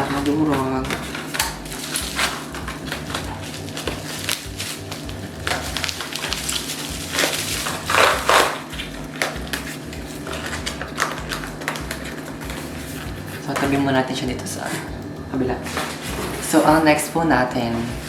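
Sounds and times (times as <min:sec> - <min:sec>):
packaging crinkling: 0:00.0 - 0:14.6.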